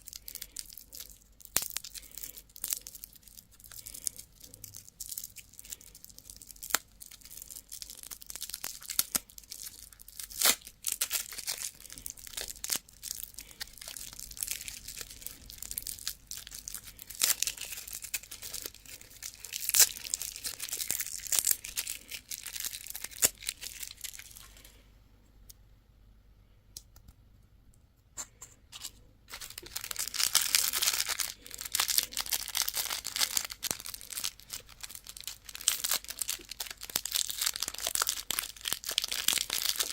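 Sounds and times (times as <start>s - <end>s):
wrappers crinkling and tearing: 0.0s - 24.8s, 28.8s - 39.9s.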